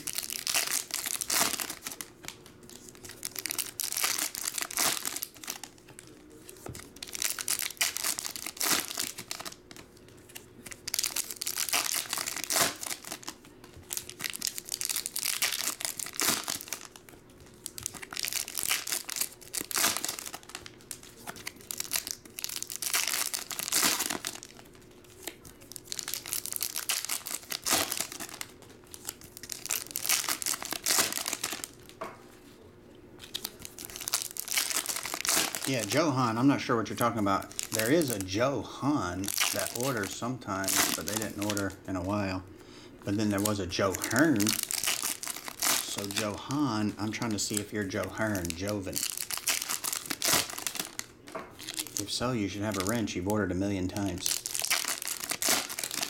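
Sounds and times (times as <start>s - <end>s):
foil wrapper tearing and crinkling: 0.0s - 32.0s, 33.2s - 41.8s, 43.1s - 56.0s.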